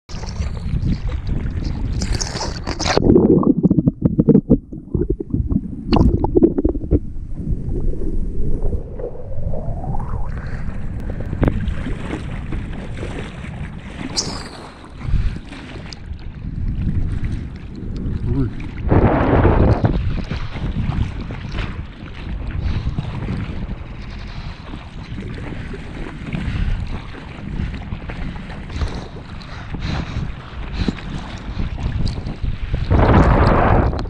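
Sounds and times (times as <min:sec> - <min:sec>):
water splashing against surfboard: 0:00.1 - 0:09.2, 0:10.3 - 0:34.0
wind rumble on microphone: 0:00.1 - 0:34.0.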